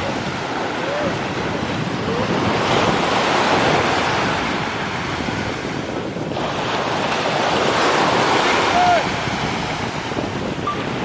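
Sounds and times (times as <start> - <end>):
sea water rushing: 0.0 - 11.0
wind buffeting microphone: 0.0 - 11.0.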